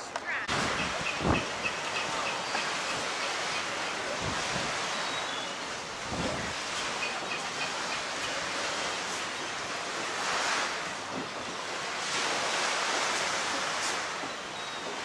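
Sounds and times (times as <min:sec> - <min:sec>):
waves washing onto shingle: 0:00.3 - 0:15.0.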